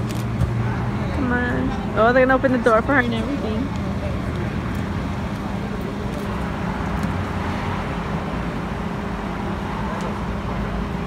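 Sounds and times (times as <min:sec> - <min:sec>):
car engine idling: 0:00.0 - 0:11.0
street traffic noise: 0:00.0 - 0:11.0.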